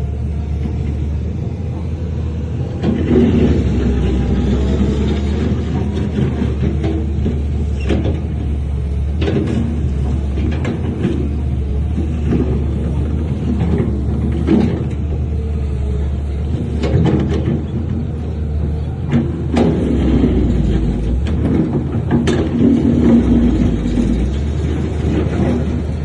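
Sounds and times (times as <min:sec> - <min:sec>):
diesel machinery rumbling: 0:00.0 - 0:26.0
metallic clanks and knocks: 0:02.8 - 0:15.3, 0:16.2 - 0:26.0.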